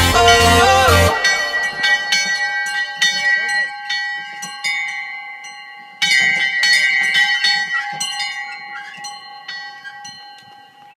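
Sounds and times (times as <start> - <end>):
small bell ringing: 1.1 - 11.0.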